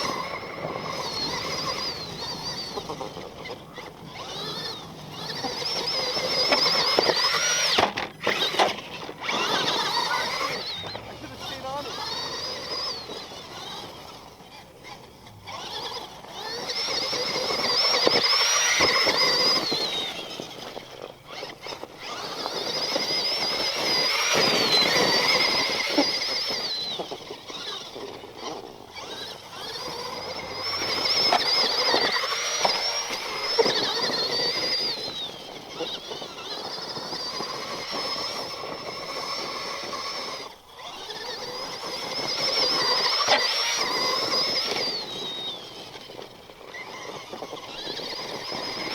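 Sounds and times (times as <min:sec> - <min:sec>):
electric toy truck motor whine: 0:00.0 - 0:48.9.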